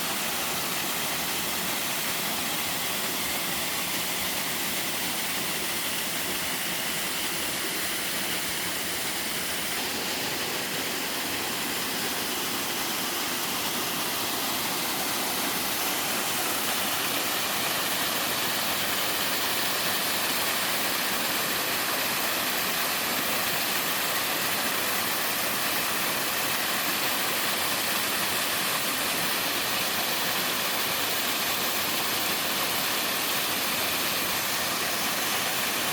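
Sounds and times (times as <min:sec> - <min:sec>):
waterfall splashing into stream: 0:00.0 - 0:35.9.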